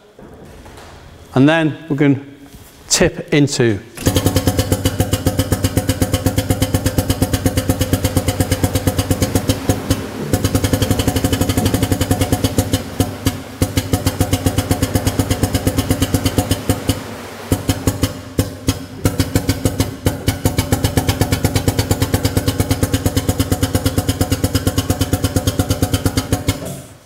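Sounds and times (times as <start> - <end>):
pneumatic power unit chugging: 4.0 - 27.0.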